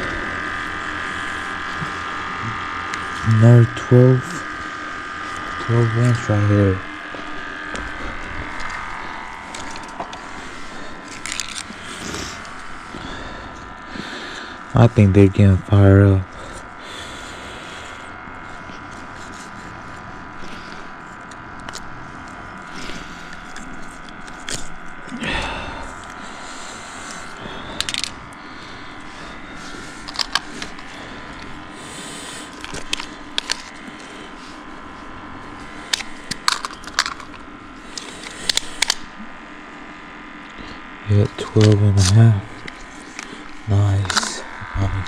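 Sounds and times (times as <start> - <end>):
electrical buzz with held tones: 0.0 - 45.0.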